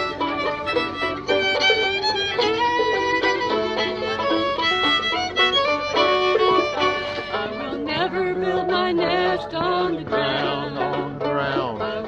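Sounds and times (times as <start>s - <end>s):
fiddle melody with sliding notes: 0.0s - 12.0s
plucked string accompaniment: 0.0s - 12.0s.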